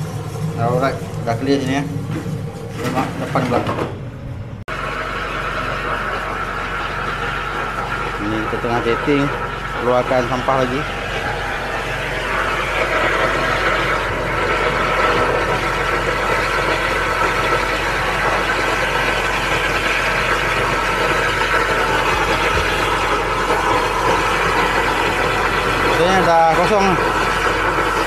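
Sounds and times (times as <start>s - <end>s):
hose spraying water: 0.0s - 3.4s, 4.7s - 28.0s
drain jetting machine running: 0.0s - 28.0s.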